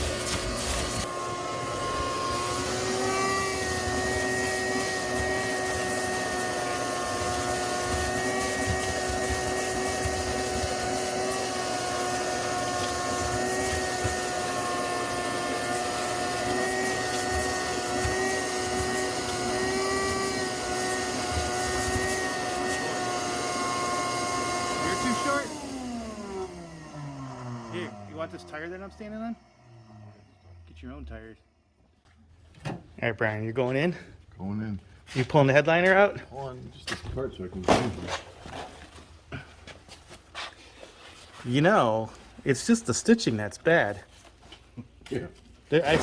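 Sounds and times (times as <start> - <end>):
shop vacuum running: 0.0 - 31.6, 37.6 - 44.6, 45.7 - 46.0.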